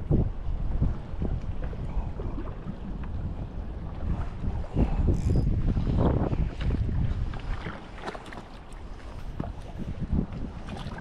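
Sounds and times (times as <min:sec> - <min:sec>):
lapping lake water: 0:00.0 - 0:11.0
wind buffeting microphone: 0:00.0 - 0:11.0.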